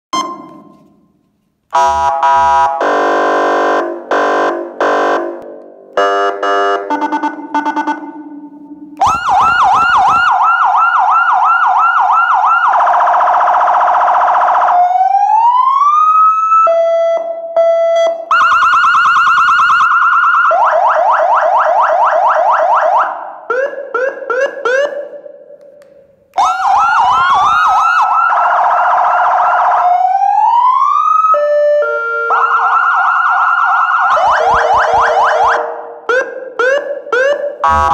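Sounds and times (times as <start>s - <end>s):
electronic siren patterns: 0.1s - 0.8s, 1.7s - 25.6s, 26.4s - 37.9s.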